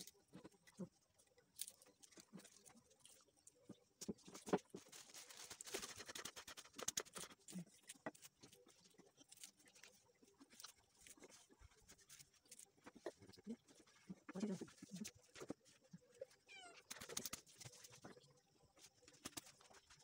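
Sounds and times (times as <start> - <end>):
faint crackles and ticks: 0.0 - 20.0.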